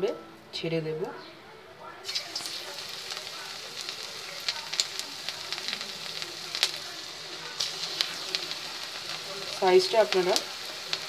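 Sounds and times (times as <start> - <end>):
batter sizzling in hot oil: 2.0 - 11.0
oil popping and crackling: 2.0 - 11.0.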